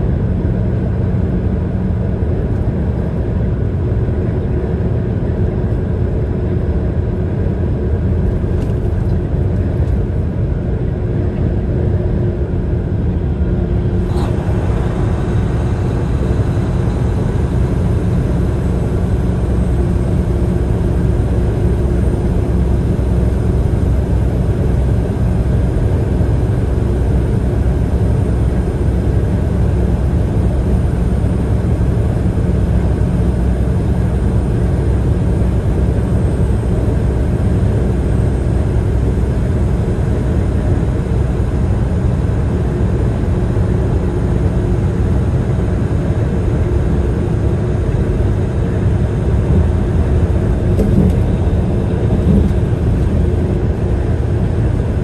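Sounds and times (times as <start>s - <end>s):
vehicle road and engine rumble: 0.0s - 55.0s.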